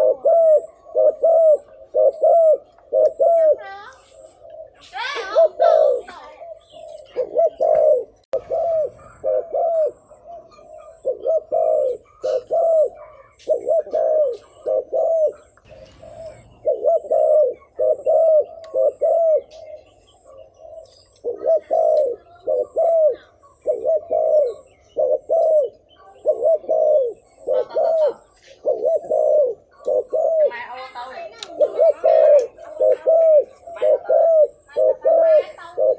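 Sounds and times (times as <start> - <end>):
dove cooing: 0.0 - 35.9.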